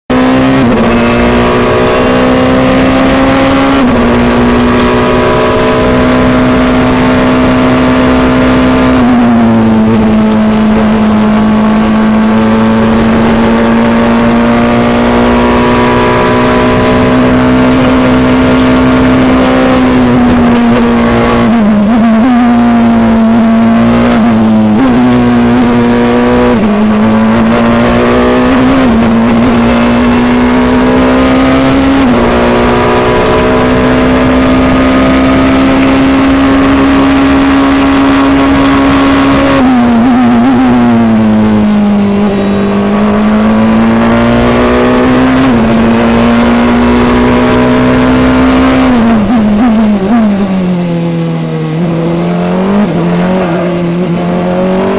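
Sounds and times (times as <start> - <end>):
race car engine at high revs: 0.0 - 54.9.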